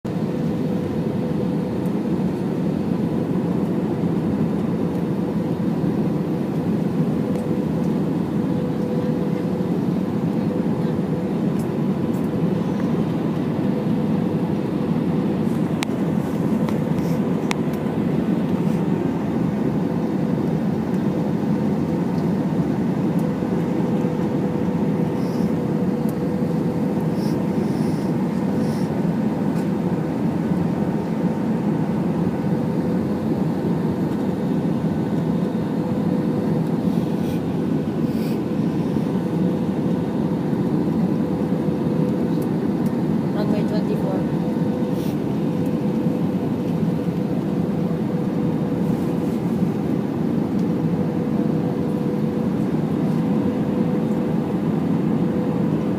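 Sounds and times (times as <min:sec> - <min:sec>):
jet engine cabin roar: 0:00.1 - 0:55.9
steady hum: 0:00.1 - 0:55.9.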